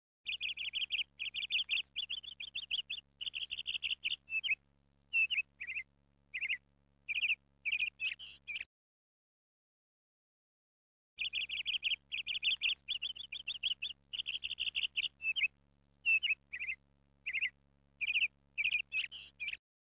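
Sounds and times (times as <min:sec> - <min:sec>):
small bird chirping: 0:00.3 - 0:08.7, 0:11.2 - 0:19.6.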